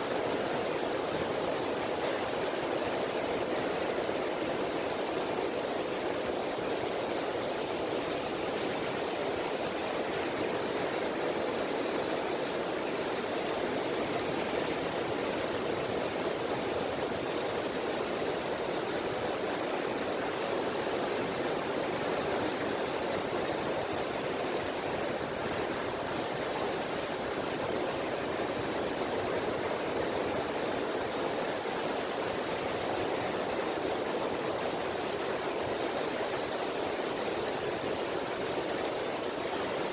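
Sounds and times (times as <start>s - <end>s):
gentle water washing on beach: 0.0s - 39.9s.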